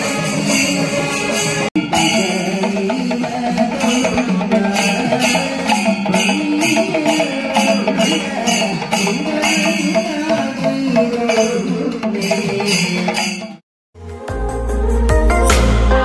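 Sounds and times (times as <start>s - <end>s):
drum beating: 0.0s - 13.6s
hand cymbals clashing: 0.0s - 13.6s.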